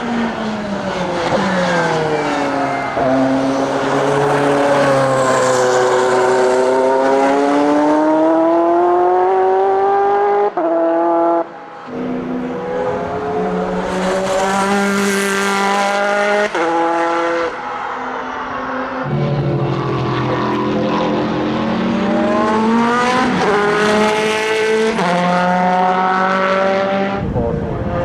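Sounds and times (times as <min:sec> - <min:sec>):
racing engine accelerating hard: 0:00.0 - 0:17.7, 0:18.4 - 0:28.0.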